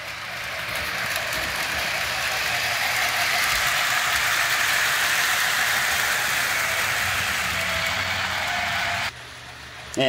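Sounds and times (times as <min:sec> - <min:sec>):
model train whirring and rattling: 0:00.0 - 0:10.0.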